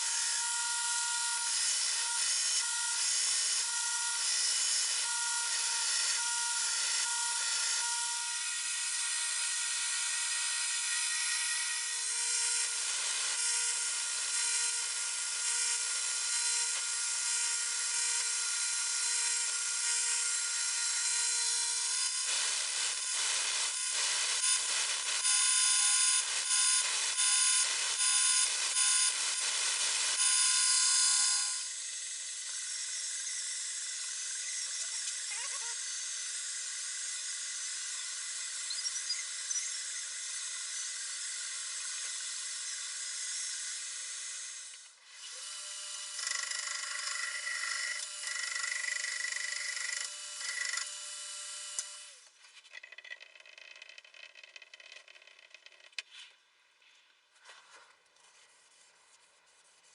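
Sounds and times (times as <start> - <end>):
power tool high whine: 0.0 - 52.3.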